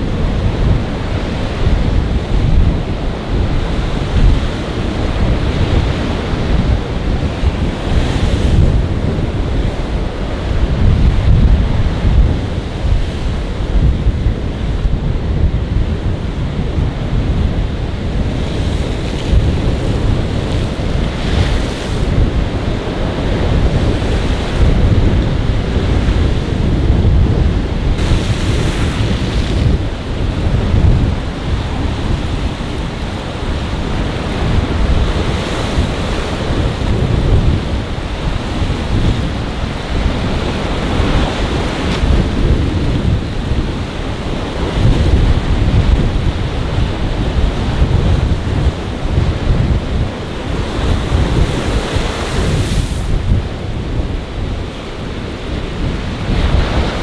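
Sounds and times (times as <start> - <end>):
surf breaking against jetty: 0.0 - 57.0
wind buffeting microphone: 0.0 - 57.0.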